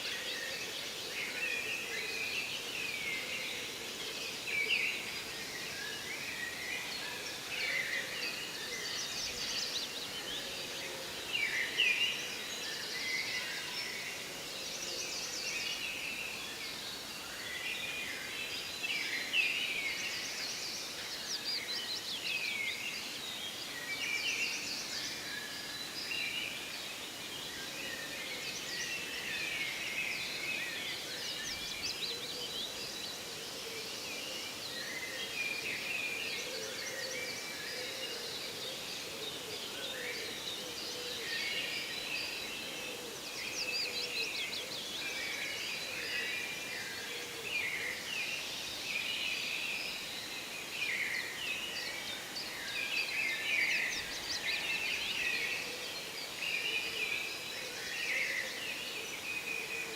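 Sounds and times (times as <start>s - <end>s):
songbirds singing and chirping: 0.0s - 59.9s
steady background hiss: 0.0s - 59.9s.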